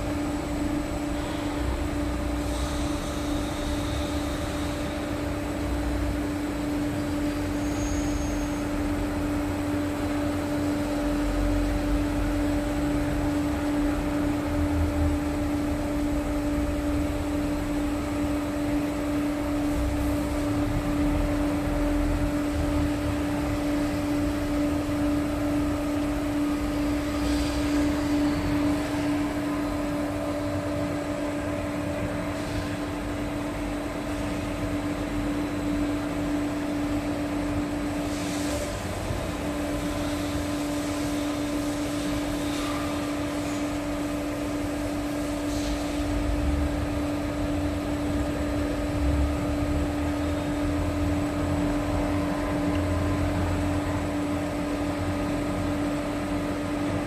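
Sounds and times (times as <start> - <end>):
hydraulic pump humming and whining: 0.0 - 57.0.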